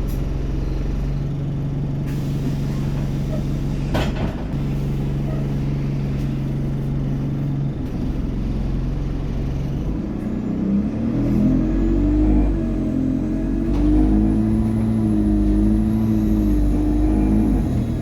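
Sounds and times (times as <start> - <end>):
bus engine pulling away: 0.0 - 18.0.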